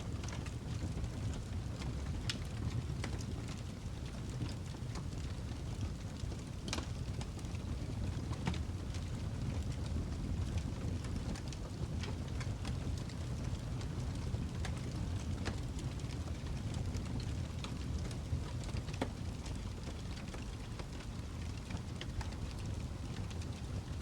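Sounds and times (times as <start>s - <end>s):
fire crackling and popping: 0.1s - 24.0s.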